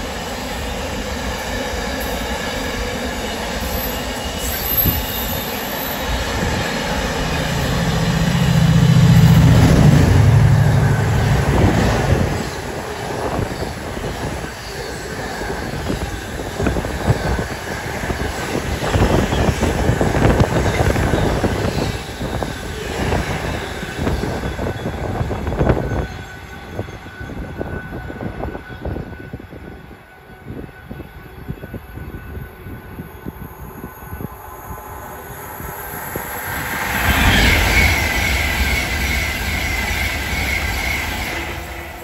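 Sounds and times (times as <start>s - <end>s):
train passing rumble: 0.0s - 42.0s.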